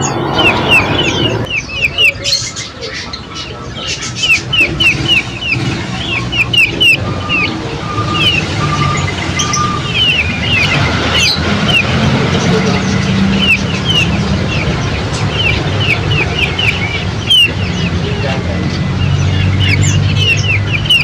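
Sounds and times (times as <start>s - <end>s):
lower whistled bird notes: 0.0s - 21.0s
small birds chirping: 0.0s - 21.0s.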